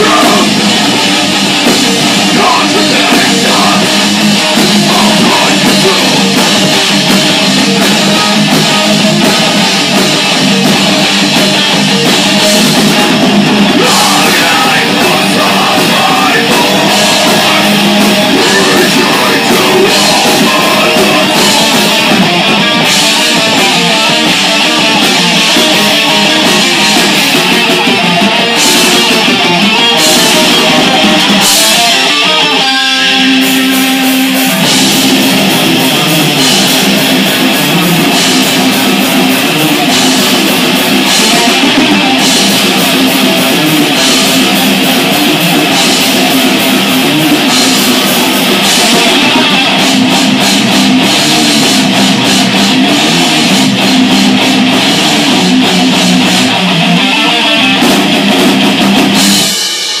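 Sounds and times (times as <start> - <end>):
drum kit: 0.0 - 60.0
electric guitars: 0.0 - 60.0.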